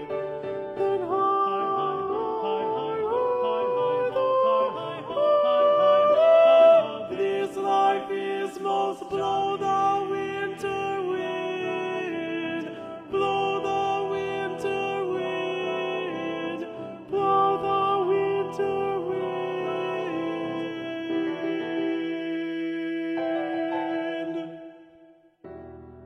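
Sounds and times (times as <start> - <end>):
person singing slow song: 0.0 - 25.2
guitar: 0.0 - 26.0.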